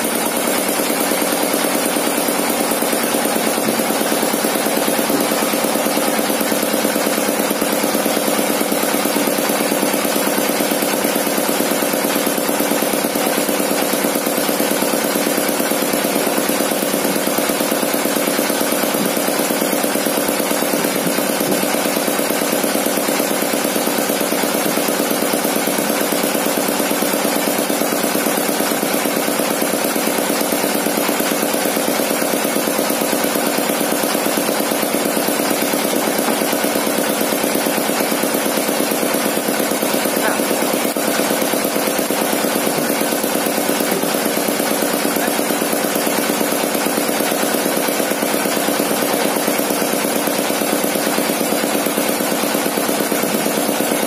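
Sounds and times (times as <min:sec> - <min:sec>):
engine running saw blade: 0:00.0 - 0:54.0.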